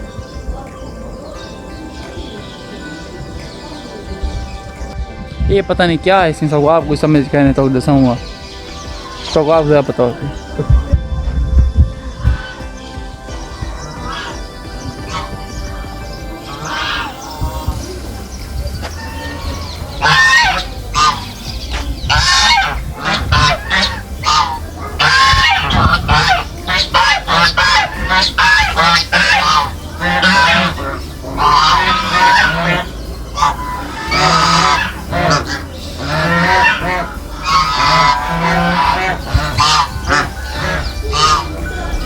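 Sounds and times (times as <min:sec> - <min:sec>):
waterfowl honking: 0:06.1 - 0:11.3, 0:11.9 - 0:42.0.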